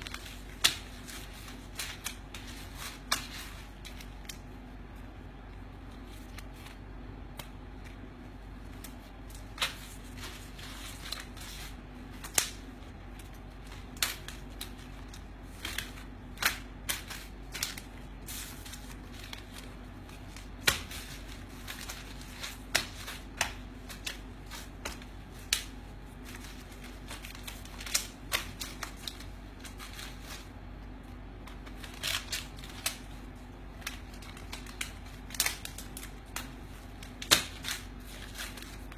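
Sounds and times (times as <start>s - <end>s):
paper banknotes riffled by hand: 0.0s - 4.9s, 5.9s - 38.9s.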